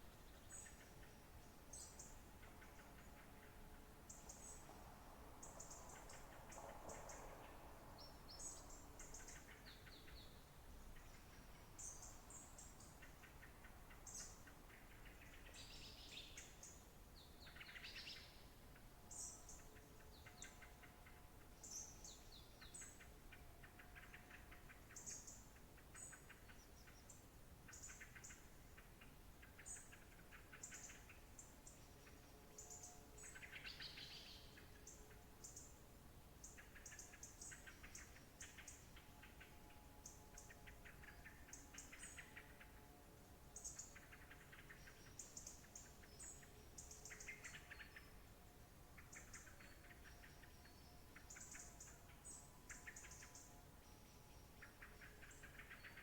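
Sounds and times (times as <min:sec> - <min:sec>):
soft background hiss: 0:00.0 - 0:56.0
songbirds chirping and trilling: 0:00.0 - 0:56.0.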